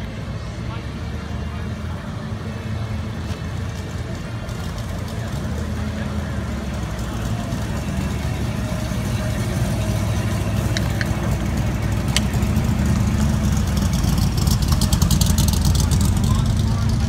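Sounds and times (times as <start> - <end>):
car engines rumbling: 0.0 - 17.0
engine crackle: 3.0 - 17.0.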